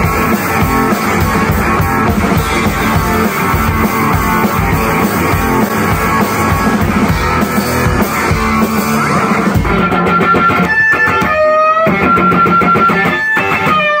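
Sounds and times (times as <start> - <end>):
bending electric guitar notes: 0.0 - 14.0
rock band playing: 0.0 - 14.0.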